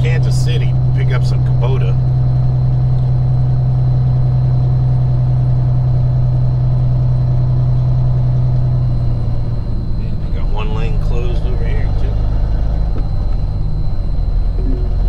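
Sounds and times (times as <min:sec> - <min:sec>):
diesel truck engine drone: 0:00.0 - 0:15.0.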